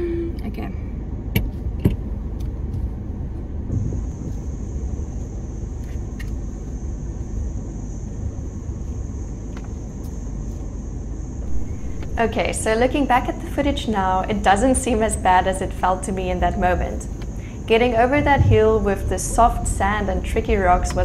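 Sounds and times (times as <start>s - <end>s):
car engine running low: 0.0s - 21.0s.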